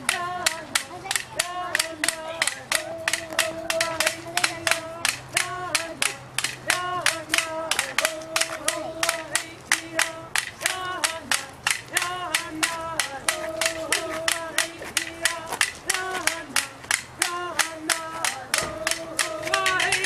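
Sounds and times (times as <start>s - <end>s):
person singing dance song: 0.0s - 20.0s
steady quick clapping: 0.0s - 20.0s.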